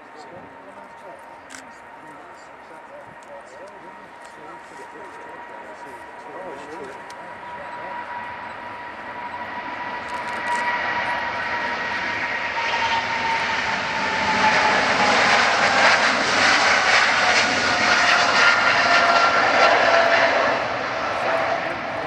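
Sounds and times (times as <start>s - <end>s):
jet airliner taking off: 0.0s - 22.0s
jet engine whine: 0.0s - 22.0s.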